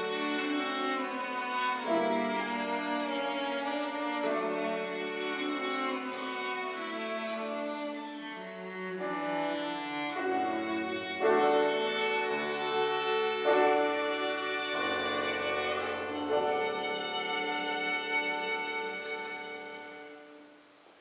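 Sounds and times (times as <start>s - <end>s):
violin cello and piano trio: 0.0s - 20.6s.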